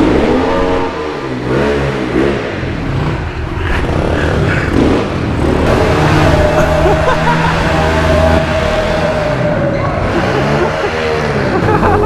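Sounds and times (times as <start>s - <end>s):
pit bike engines revving: 0.0s - 12.0s.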